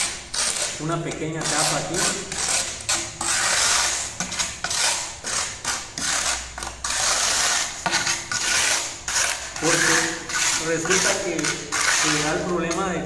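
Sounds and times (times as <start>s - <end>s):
trowel scraping mortar on tile: 0.0s - 13.0s.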